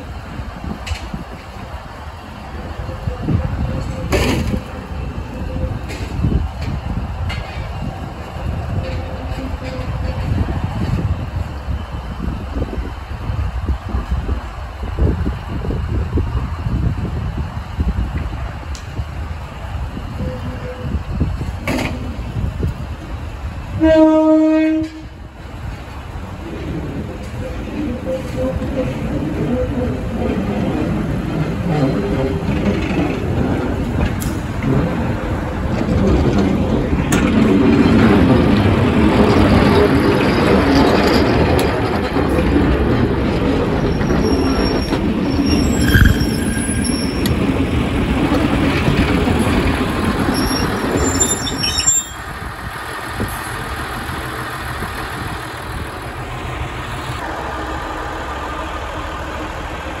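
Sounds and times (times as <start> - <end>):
diesel train engine running: 0.0 - 60.0.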